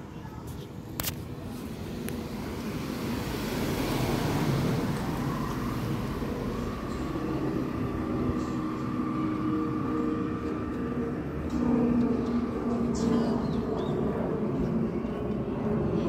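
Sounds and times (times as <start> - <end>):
steady whine: 0.8 - 16.0
passing vehicle rumble: 1.2 - 16.0.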